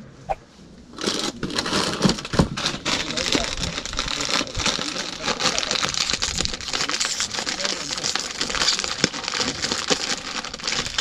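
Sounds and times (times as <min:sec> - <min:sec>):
plastic snack packet crinkling: 0:01.0 - 0:11.0.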